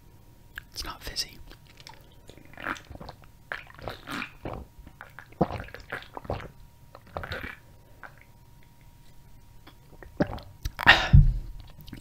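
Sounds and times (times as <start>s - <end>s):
gulping and swallowing: 1.5s - 8.9s, 9.6s - 12.0s.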